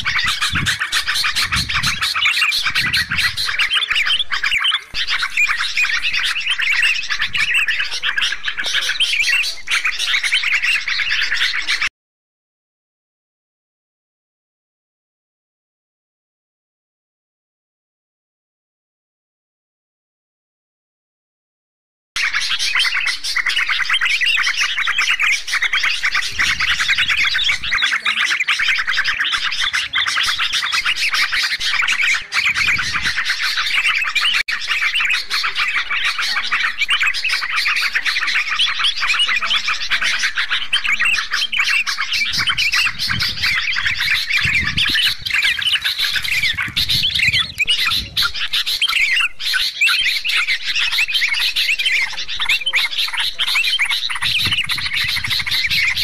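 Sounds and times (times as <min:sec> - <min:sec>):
bulbuls chattering and calling: 0:00.0 - 0:11.9, 0:22.2 - 0:56.0.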